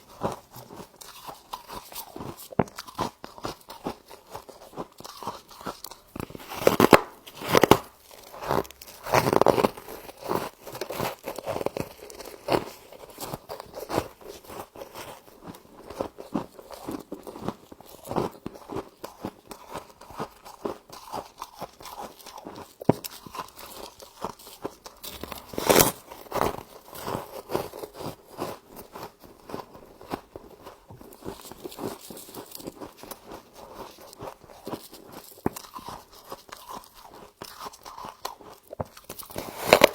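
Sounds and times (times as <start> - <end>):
frost being bitten and chewed: 0.0 - 39.9.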